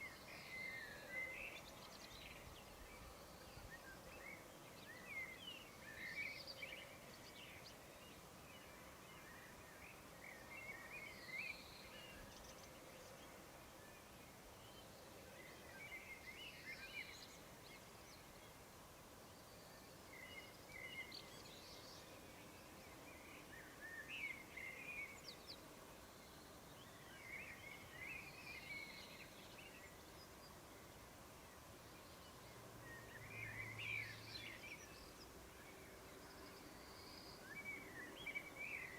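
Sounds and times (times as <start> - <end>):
steady low hiss: 0.0 - 38.9.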